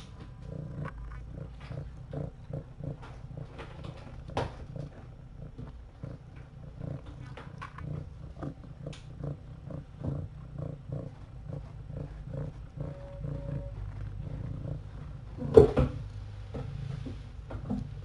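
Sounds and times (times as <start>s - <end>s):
cat purring: 0.0s - 18.0s
cat licking: 0.4s - 15.5s.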